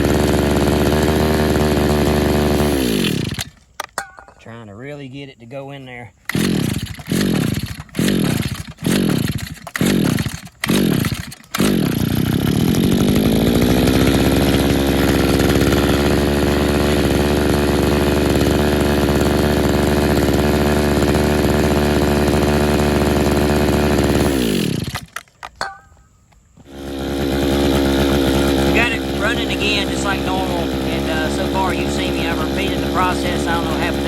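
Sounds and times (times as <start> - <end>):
small two-stroke engine running: 0.0 - 3.7, 6.3 - 25.8, 26.6 - 34.0.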